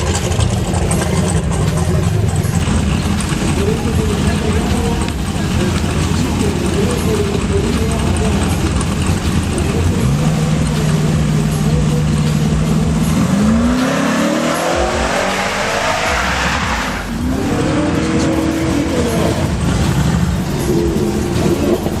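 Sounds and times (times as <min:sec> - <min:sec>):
drag-racing engine accelerating: 0:00.0 - 0:22.0.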